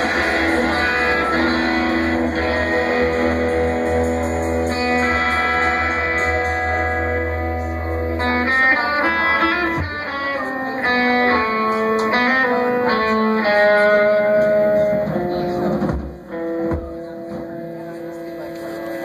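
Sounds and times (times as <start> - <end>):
electric guitar melody: 0.0 - 19.0.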